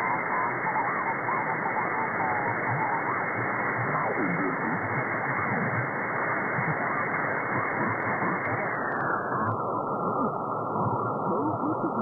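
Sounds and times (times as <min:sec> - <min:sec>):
wavering radio tones: 0:00.0 - 0:05.9, 0:06.5 - 0:12.0
radio band noise hiss: 0:00.0 - 0:12.0.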